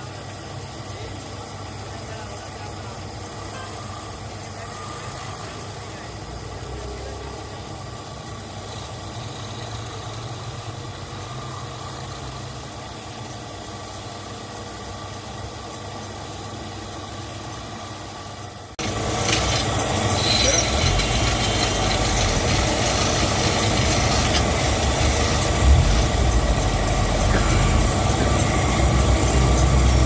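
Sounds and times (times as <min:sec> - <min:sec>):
constant hiss: 0:00.0 - 0:30.0
machine hum with low drone: 0:00.0 - 0:30.0.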